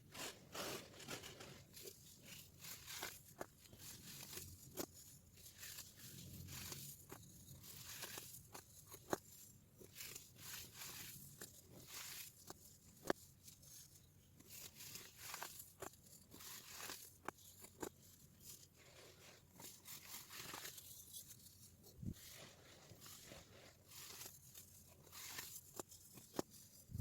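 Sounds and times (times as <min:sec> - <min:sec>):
baking soda crunching: 0:00.0 - 0:27.0.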